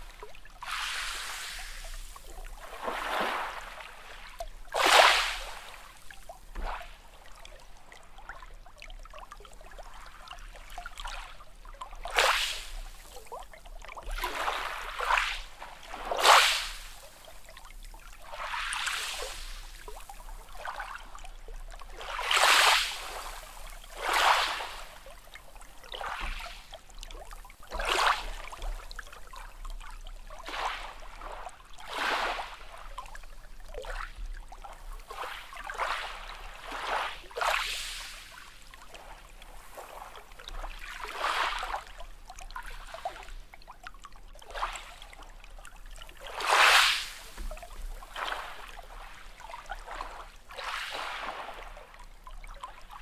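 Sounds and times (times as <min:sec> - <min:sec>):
small waves lapping and splashing: 0:00.0 - 0:53.0.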